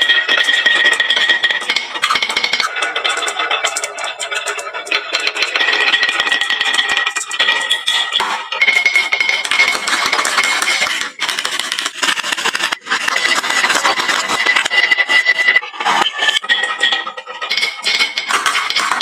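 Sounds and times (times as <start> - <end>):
marbles clattering on wooden track: 0.0 - 19.0.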